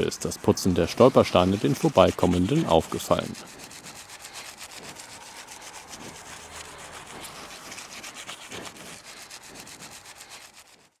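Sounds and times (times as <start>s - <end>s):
scrubbing metal plaques by hand: 0.0s - 11.0s.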